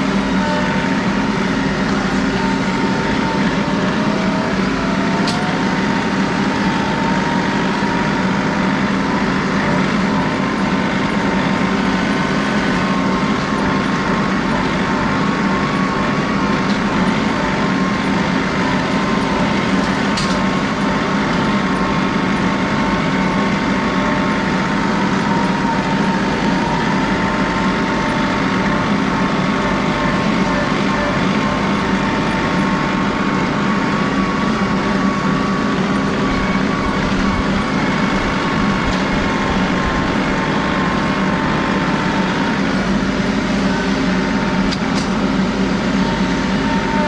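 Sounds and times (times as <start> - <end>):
thin steady whine: 0.0 - 47.0
tractor diesel engine running: 0.0 - 47.0.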